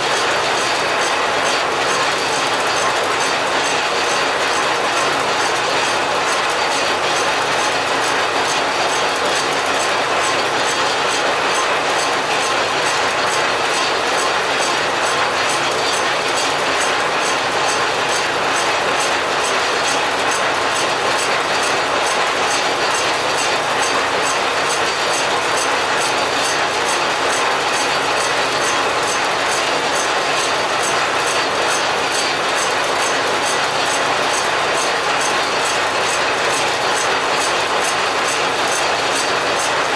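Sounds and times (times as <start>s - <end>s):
lathe gears clattering: 0.0s - 39.9s.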